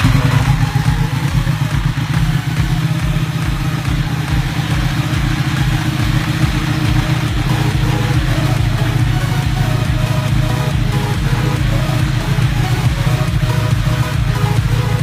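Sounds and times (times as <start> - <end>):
motorcycle engine starting and idling: 0.0 - 15.0.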